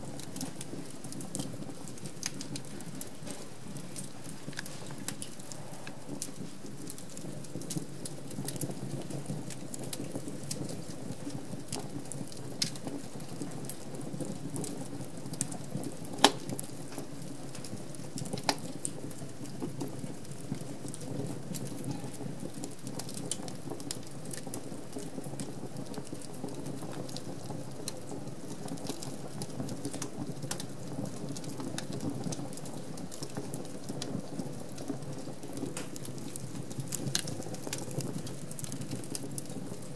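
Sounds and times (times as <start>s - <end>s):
fireplace flames rushing: 0.0s - 39.9s
wood fire crackling and popping: 0.0s - 39.9s.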